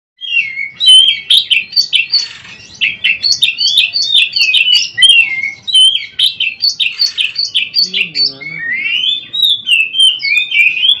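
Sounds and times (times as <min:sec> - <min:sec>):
magpie-robin singing: 0:00.2 - 0:11.0.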